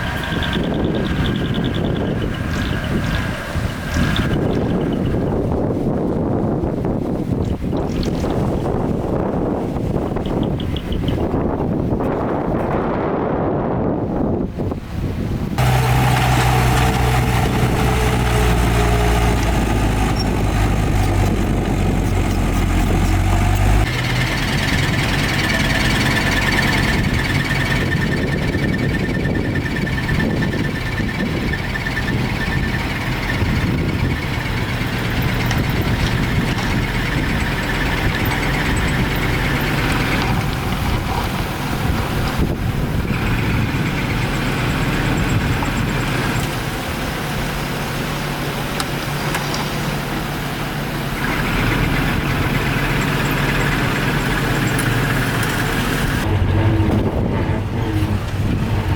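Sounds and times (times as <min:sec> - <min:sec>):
diesel engine drone: 0:00.0 - 0:58.9.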